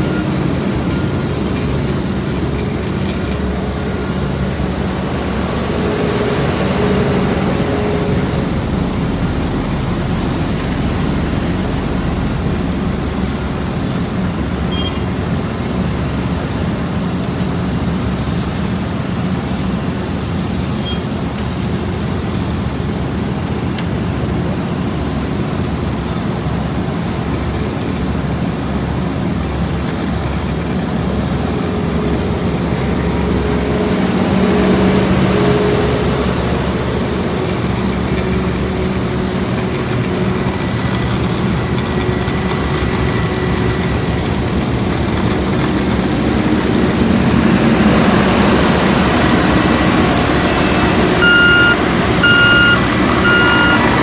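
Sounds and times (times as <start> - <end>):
heavy diesel engines droning: 0.0 - 54.0.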